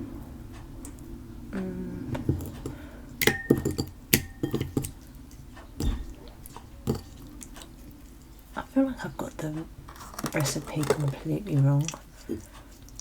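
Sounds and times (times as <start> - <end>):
utensil clinking against a bowl: 2.2 - 13.0.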